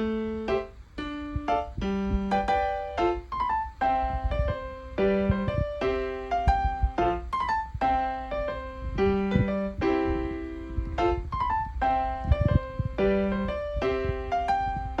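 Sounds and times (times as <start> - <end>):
keyboard melody: 0.0 - 15.0.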